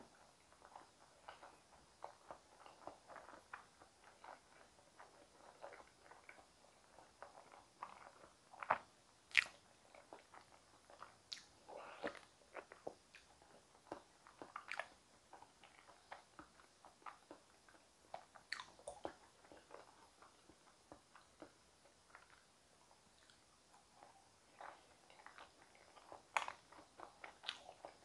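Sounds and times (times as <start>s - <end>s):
close chewing mouth sounds: 0.0s - 28.0s.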